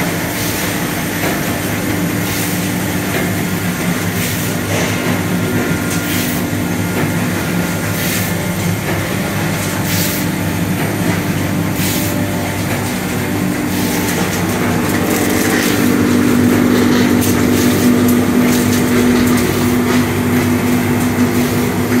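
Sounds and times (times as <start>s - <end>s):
saddle stitcher machine hum: 0.0s - 22.0s.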